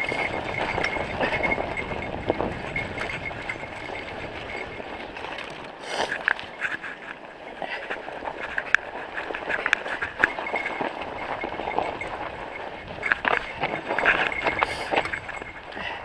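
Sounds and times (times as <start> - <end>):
bike clicking and rattling: 0.0 - 16.0
bike tyres on snow: 0.0 - 16.0.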